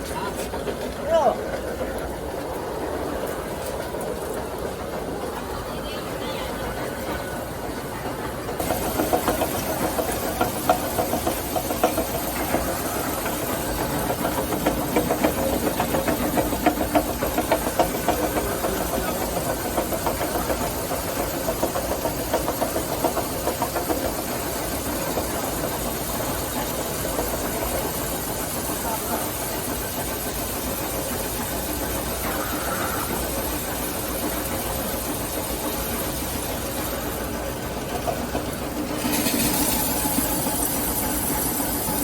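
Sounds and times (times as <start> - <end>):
machinery rapid rattle: 0.5 - 42.0.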